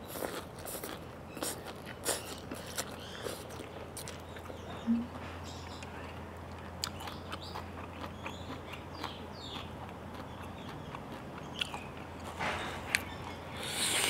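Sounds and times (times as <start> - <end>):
close chewing with wet mouth sounds: 0.0 - 4.8, 5.5 - 14.0
small crunches while chewing: 0.0 - 14.0.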